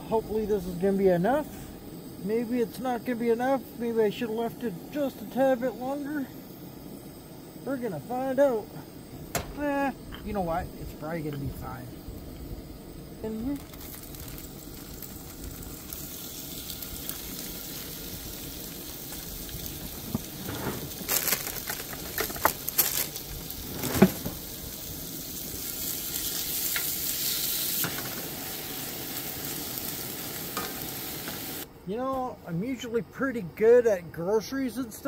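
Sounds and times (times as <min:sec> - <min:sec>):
food sizzling in a skillet: 0:00.0 - 0:31.7.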